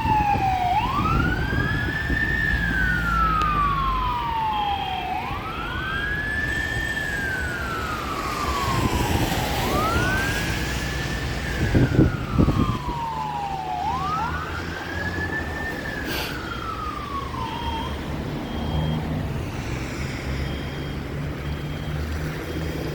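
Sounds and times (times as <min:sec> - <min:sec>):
fire engine siren wailing: 0:00.0 - 0:22.9.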